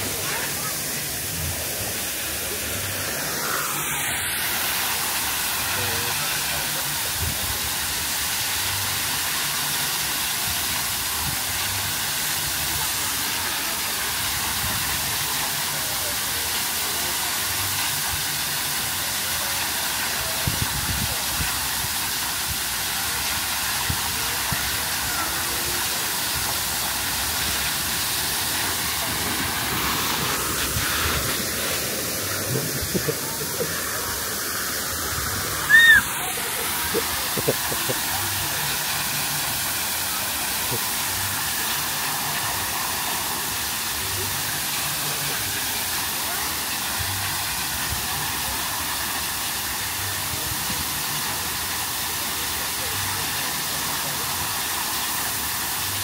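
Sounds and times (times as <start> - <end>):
water rushing down slide: 0.0 - 56.0.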